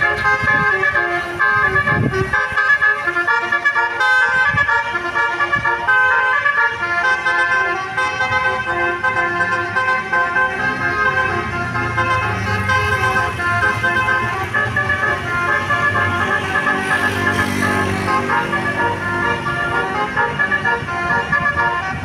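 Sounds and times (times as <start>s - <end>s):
musical bus air horn: 0.0s - 22.0s.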